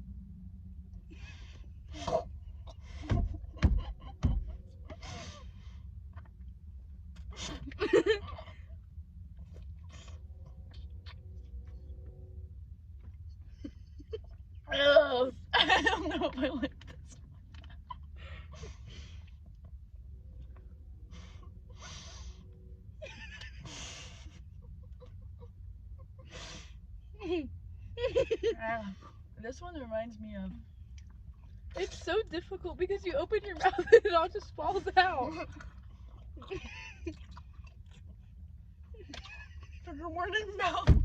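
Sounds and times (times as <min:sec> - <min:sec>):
steady low hum: 0:00.0 - 0:41.0
steady low rumble: 0:00.0 - 0:41.0.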